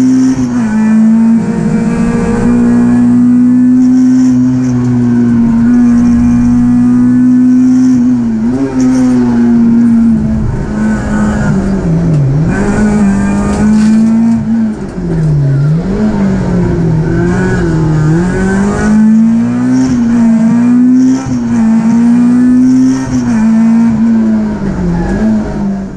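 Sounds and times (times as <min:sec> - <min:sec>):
rally car engine at high revs: 0:00.0 - 0:25.9.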